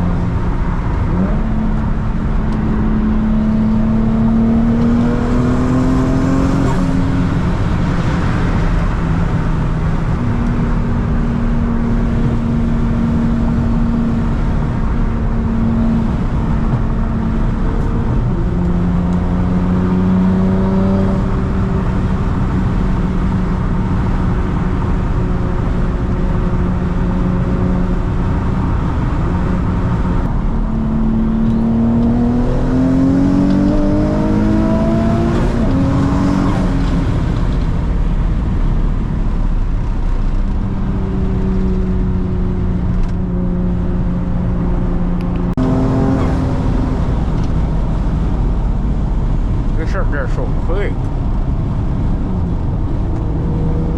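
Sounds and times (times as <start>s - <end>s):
car engine running under load: 0.0s - 53.9s
road noise: 0.0s - 53.9s.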